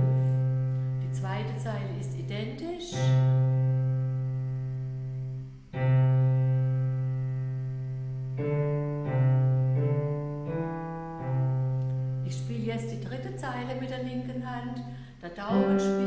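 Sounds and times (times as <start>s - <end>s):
digital piano slow melody: 0.0s - 14.9s, 15.5s - 16.0s.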